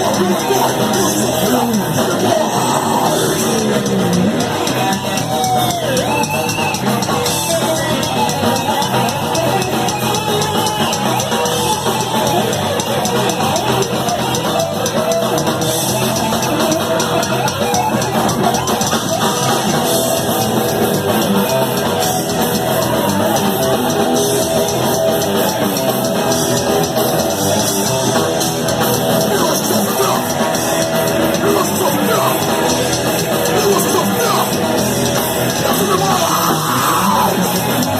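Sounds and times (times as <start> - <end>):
drum kit: 0.0 - 37.9
electric guitars: 0.0 - 37.9.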